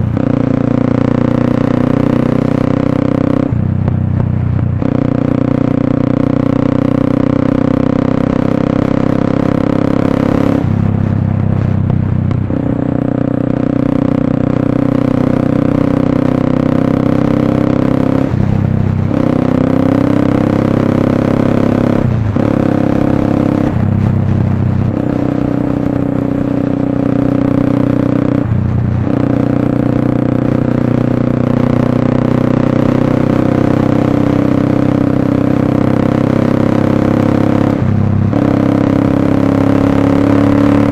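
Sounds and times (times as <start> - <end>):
motorcycle engine exhaust note: 0.0 - 40.9.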